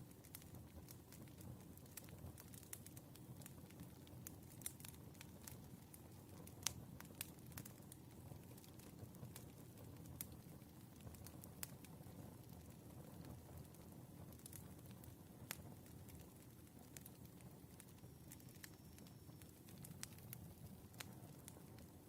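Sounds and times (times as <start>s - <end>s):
firewood burning with crackles: 0.0s - 22.0s.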